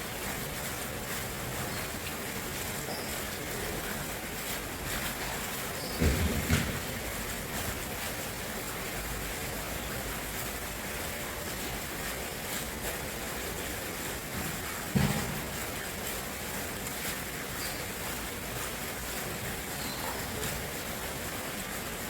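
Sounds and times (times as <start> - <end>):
flowing water: 0.0 - 22.0.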